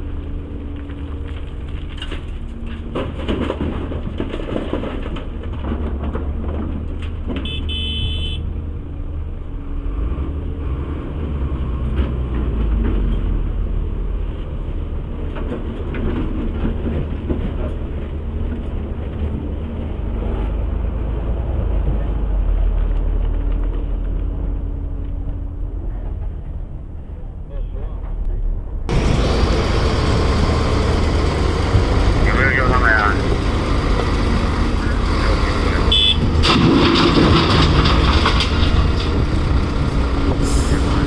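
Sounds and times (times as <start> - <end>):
rock and dirt clattering: 0.0 - 7.6, 11.9 - 25.3, 28.9 - 41.0
excavator diesel engine rumbling: 0.0 - 41.0.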